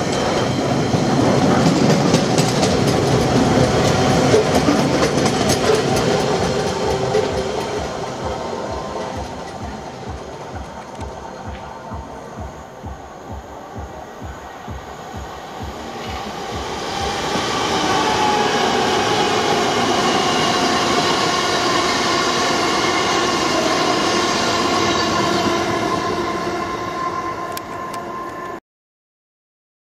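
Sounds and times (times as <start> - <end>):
train wheels whining on rails: 0.0 - 28.6.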